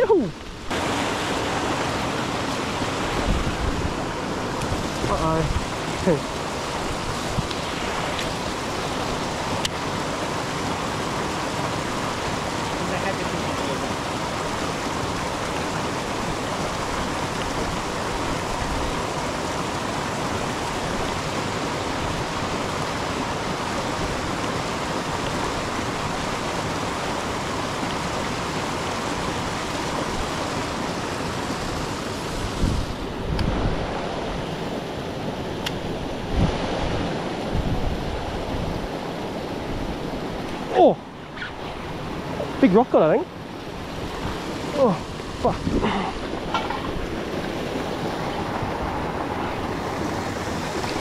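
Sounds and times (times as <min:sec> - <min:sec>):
water rushing over rocks: 0:00.0 - 0:51.0.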